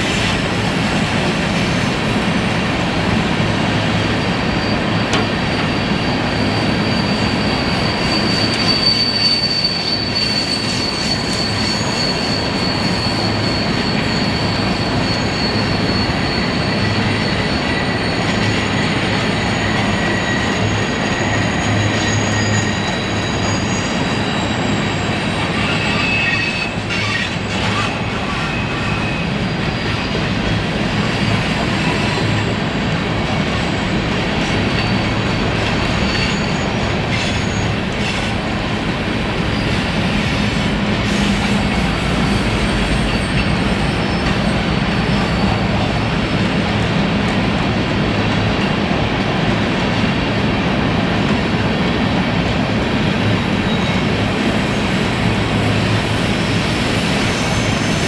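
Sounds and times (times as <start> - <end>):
freight train rumbling: 0.0 - 58.0
train wheels squealing on rails: 0.0 - 58.0.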